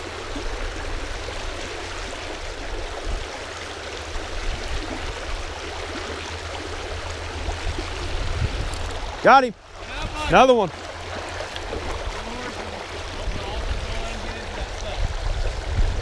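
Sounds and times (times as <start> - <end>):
creek water rushing over gravel: 0.0 - 16.0.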